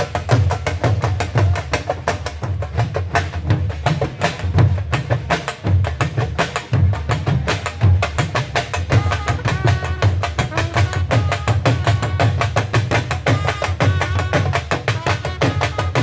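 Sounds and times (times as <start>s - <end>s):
dhol drum fast rhythm: 0.0s - 16.0s.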